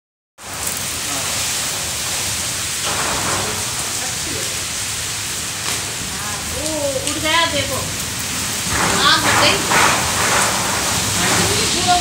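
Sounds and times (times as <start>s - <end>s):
heavy rain falling: 0.4s - 12.0s.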